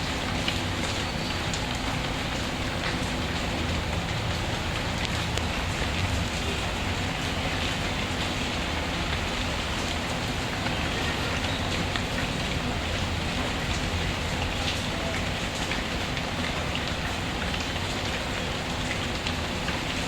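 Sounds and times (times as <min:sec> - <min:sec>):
steady rainfall: 0:00.0 - 0:20.0
faint wood fire crackling: 0:00.1 - 0:19.9.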